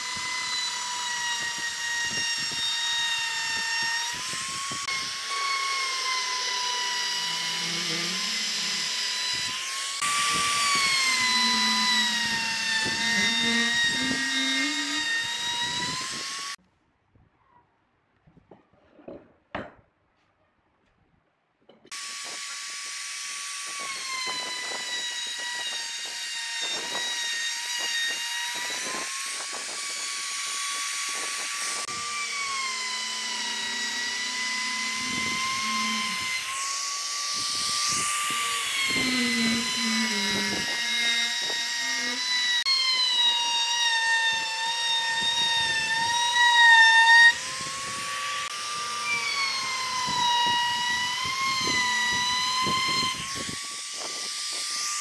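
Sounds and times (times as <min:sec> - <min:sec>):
router cutting wood: 0:00.0 - 0:16.6, 0:21.9 - 0:55.0.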